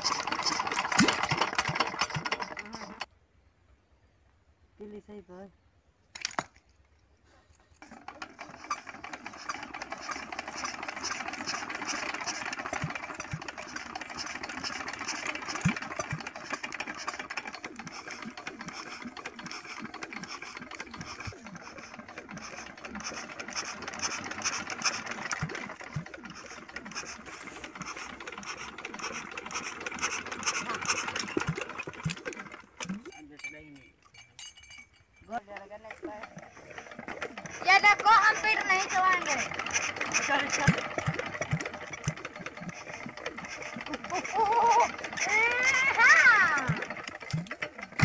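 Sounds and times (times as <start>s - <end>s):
diesel engine clattering: 8.0s - 48.0s.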